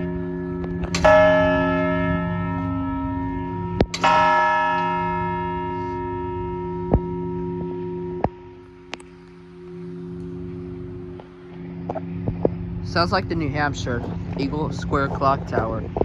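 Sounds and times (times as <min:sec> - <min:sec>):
tower clock bell striking: 0:00.0 - 0:14.9.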